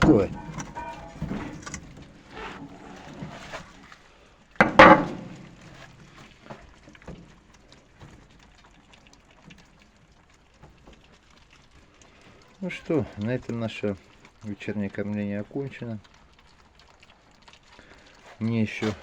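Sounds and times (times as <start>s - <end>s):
animal eating clicks and crackles: 0.0s - 19.0s.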